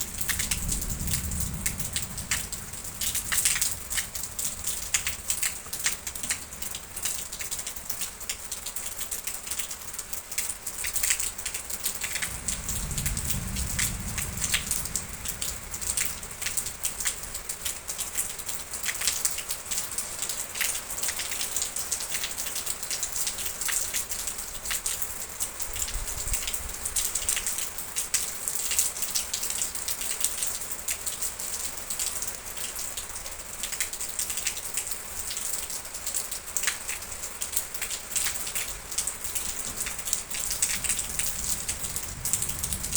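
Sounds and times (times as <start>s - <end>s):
rain drops pattering: 0.0s - 42.9s.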